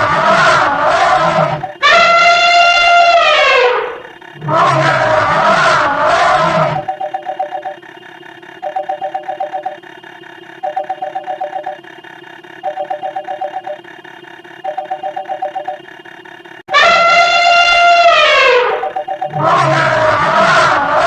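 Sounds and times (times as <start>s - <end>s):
telephone ringing: 0.0s - 2.9s, 5.0s - 19.6s
faint steady hum: 0.0s - 21.0s.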